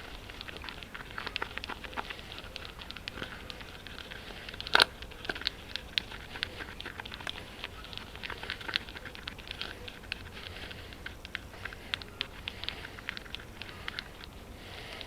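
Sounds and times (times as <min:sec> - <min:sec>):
crinkling: 0:00.0 - 0:15.0
small handling clicks: 0:00.0 - 0:15.0.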